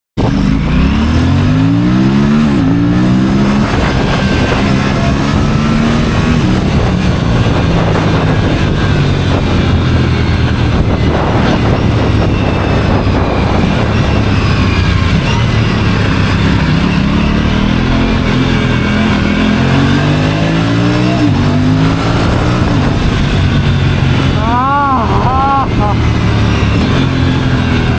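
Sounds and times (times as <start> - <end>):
motorcycle engine revving: 0.2 - 27.9.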